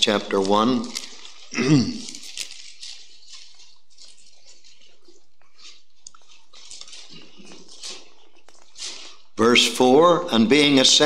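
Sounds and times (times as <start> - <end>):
paper pages rustling: 0.0 - 9.4.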